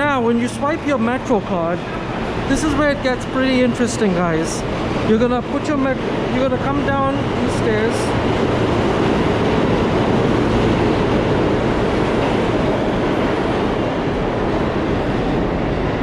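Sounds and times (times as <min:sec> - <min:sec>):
subway train passing: 0:00.0 - 0:16.0.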